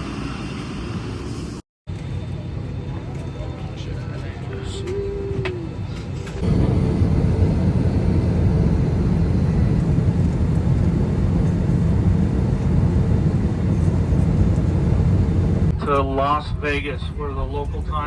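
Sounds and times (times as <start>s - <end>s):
jet engines and rushing air roar: 0.0s - 17.9s.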